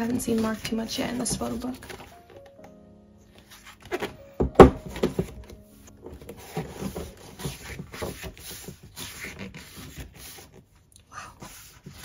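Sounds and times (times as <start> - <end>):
book pages turning: 0.0 - 12.0
paper rustling: 0.0 - 12.0
book thumping: 0.2 - 2.8, 3.4 - 10.6.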